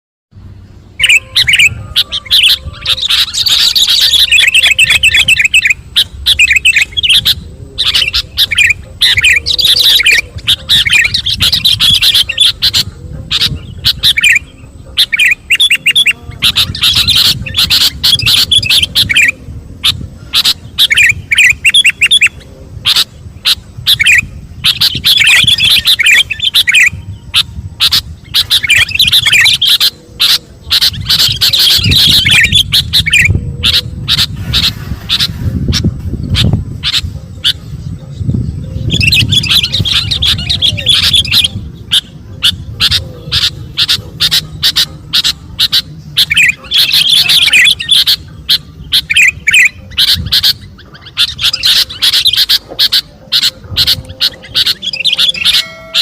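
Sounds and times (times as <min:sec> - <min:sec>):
bird singing trills and whistles: 0:00.4 - 0:56.0.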